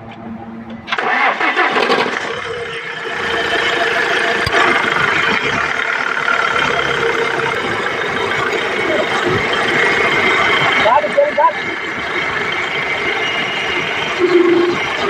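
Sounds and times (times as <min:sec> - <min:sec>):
constant high whine: 0:00.0 - 0:15.0
diesel engine cranking and idling: 0:00.0 - 0:15.0.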